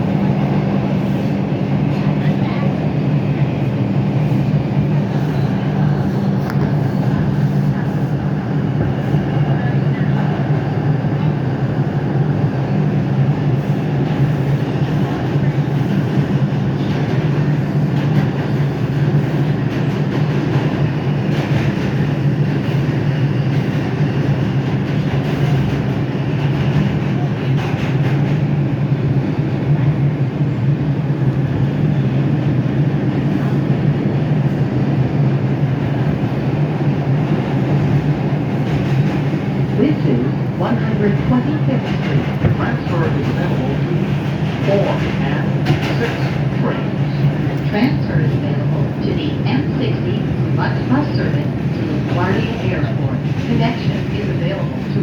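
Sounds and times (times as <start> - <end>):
low train hum: 0.0 - 55.0
subway train wheels rumbling on rail: 0.0 - 55.0.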